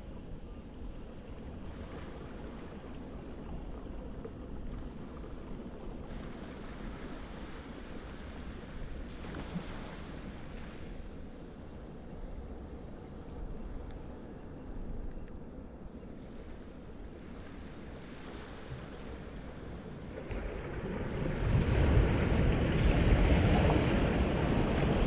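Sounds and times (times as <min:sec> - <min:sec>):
wind rumble on microphone: 0:00.0 - 0:25.0
wind and surf rushing: 0:04.8 - 0:25.0.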